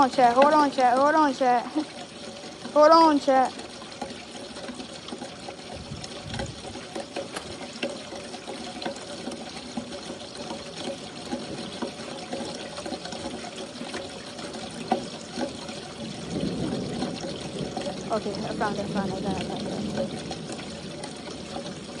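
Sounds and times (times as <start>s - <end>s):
rain falling and splashing: 0.0s - 22.0s
raindrop hits: 0.0s - 22.0s.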